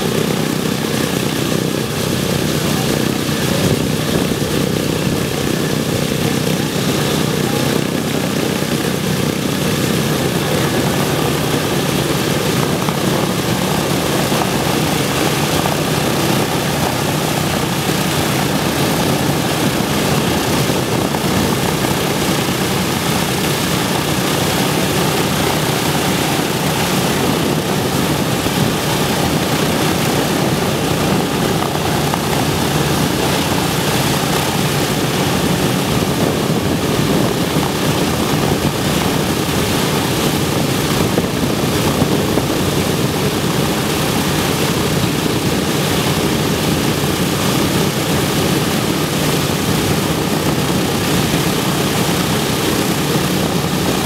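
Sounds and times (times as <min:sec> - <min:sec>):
radial aircraft engines idling: 0:00.0 - 0:54.0.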